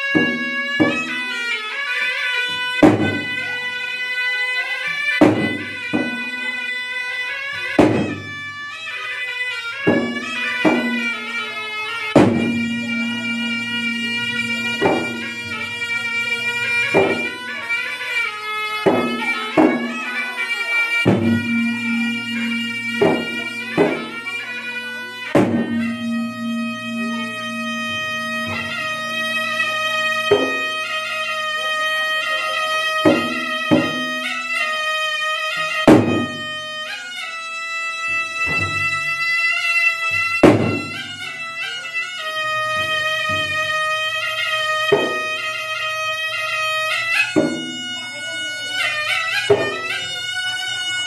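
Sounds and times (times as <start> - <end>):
hand-beaten drums: 0.0 - 8.7, 9.5 - 37.4, 38.0 - 51.0
shawm melody: 0.0 - 51.0.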